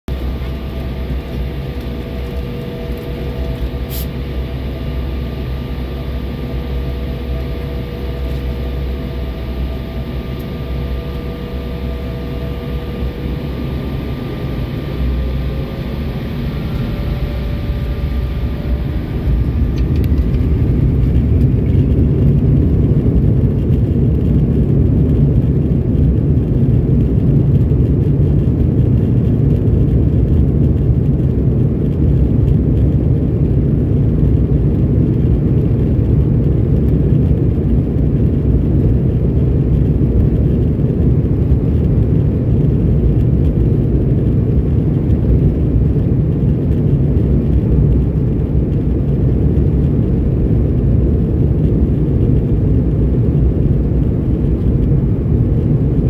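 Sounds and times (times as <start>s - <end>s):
jet engines whining and rumbling: 0.0s - 56.0s.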